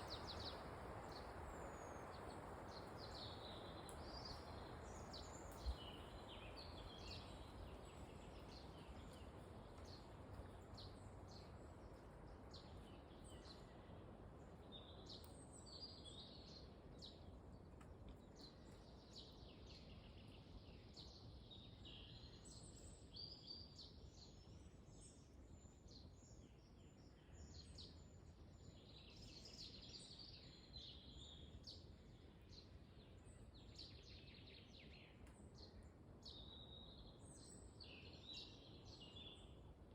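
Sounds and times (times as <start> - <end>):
small birds chirping: 0.0 - 39.9
wind in a forest: 0.0 - 39.9.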